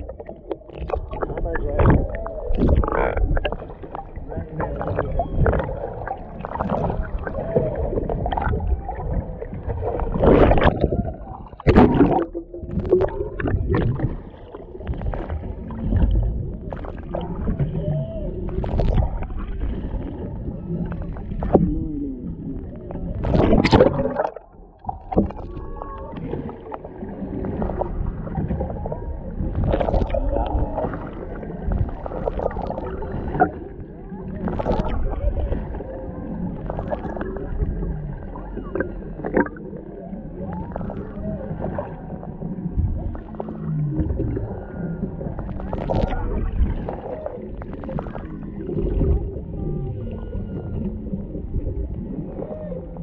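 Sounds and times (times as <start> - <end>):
whale song moans: 0.0 - 12.2, 15.4 - 53.0
underwater water rush: 0.0 - 53.0.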